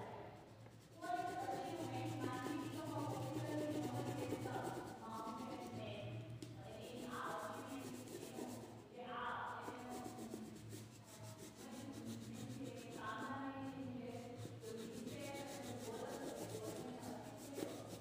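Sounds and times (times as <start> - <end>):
crayon scratching on paper: 0.4 - 18.0.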